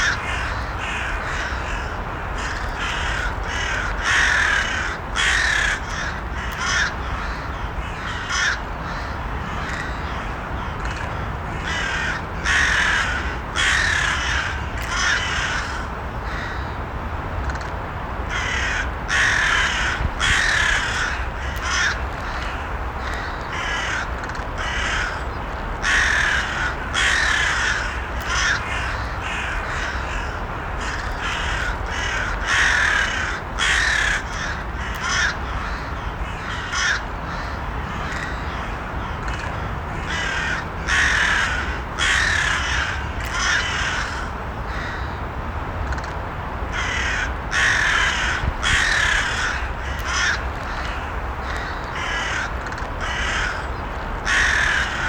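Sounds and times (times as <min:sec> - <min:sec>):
crows cawing: 0:00.0 - 0:16.8, 0:18.3 - 0:45.2, 0:46.7 - 0:55.0
low background noise: 0:00.0 - 0:55.0.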